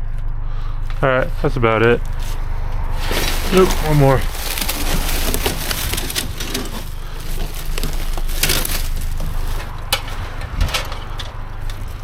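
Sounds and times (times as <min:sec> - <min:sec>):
steady low hum: 0:00.0 - 0:12.0
scraping and rustling debris: 0:00.8 - 0:12.0.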